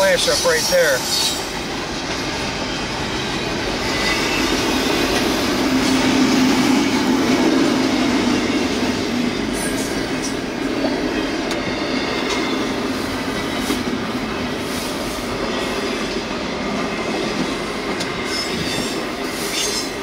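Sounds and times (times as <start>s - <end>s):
freight train rumbling and rattling: 0.0s - 20.0s.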